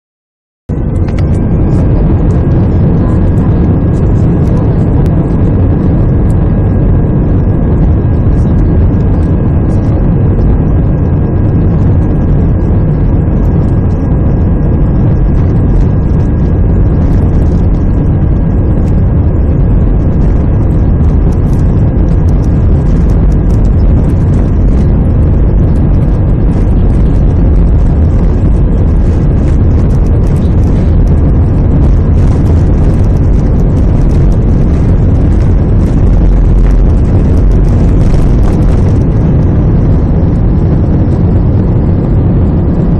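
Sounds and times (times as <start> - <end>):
faint engine whine: 0.7 - 42.9
jet engines roaring: 0.7 - 42.9.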